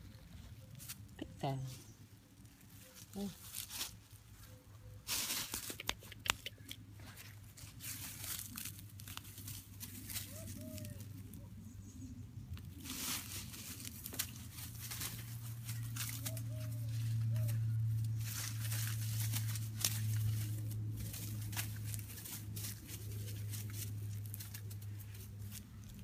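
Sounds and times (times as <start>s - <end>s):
ivy leaves rustling: 0.0s - 5.9s, 7.0s - 12.0s, 12.6s - 26.0s.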